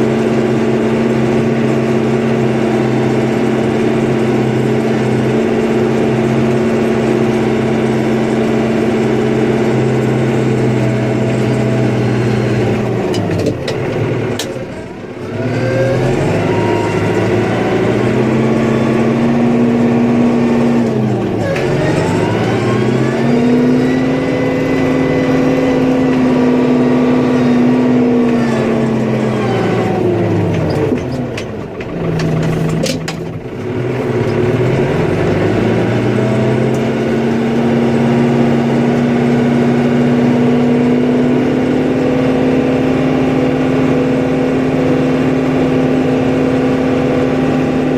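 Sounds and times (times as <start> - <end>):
snowplow engine working hard: 0.0 - 47.9.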